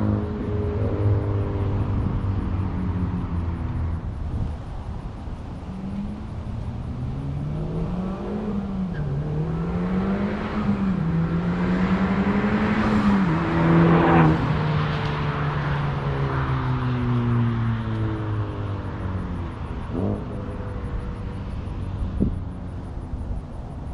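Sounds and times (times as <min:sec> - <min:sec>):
car engine through loud exhaust: 0:00.0 - 0:23.9.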